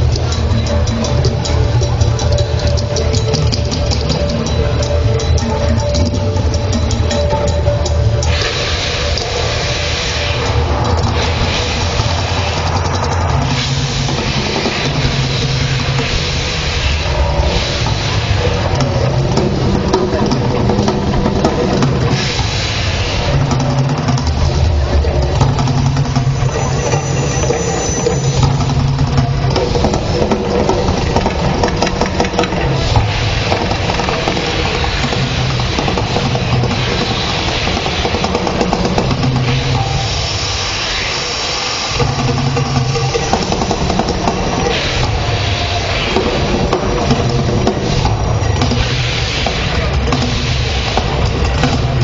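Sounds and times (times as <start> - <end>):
loud rumble: 0.0 - 52.0
show soundtrack music: 0.0 - 52.0
loud fire effects roar: 8.2 - 52.0.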